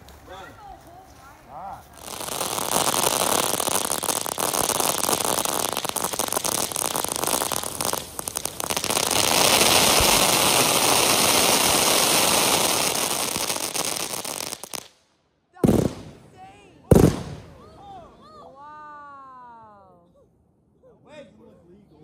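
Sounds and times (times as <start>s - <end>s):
ground fireworks crackling and hissing: 0.0s - 18.1s.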